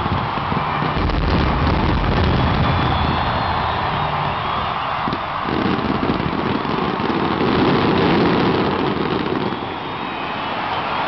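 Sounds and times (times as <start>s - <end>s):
fireworks crackling and rumbling: 0.0s - 11.0s.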